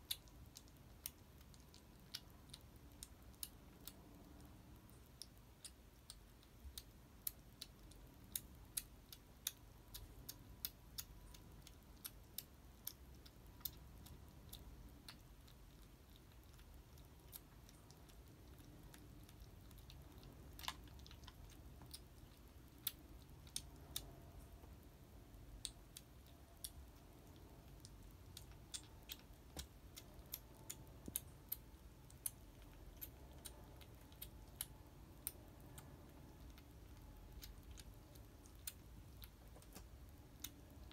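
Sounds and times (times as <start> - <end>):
kitten crunching dry kibble: 0.0 - 40.9
low room hum: 0.0 - 40.9.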